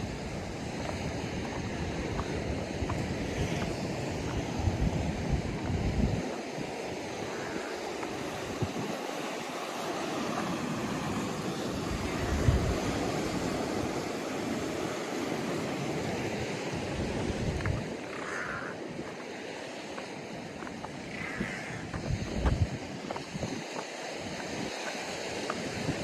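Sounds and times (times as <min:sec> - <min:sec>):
ocean surf washing on shore: 0:00.0 - 0:26.0
wind gusting on microphone: 0:00.0 - 0:26.0.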